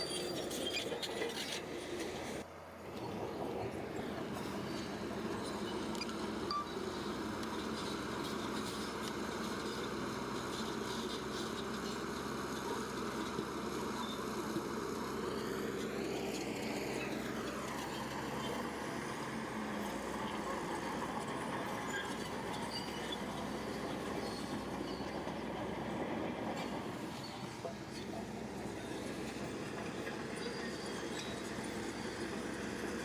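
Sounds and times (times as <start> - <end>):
bulldozer diesel engine: 0.0 - 33.0.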